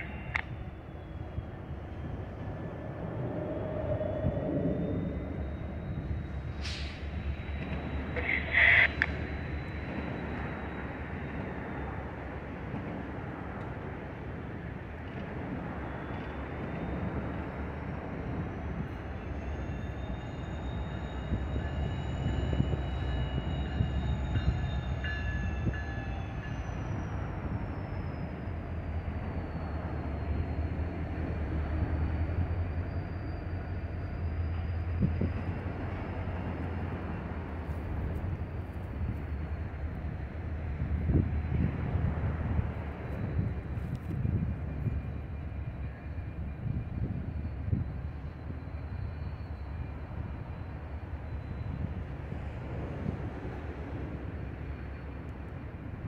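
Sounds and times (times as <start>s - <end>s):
distant locomotive engine rumble: 0.0s - 56.0s.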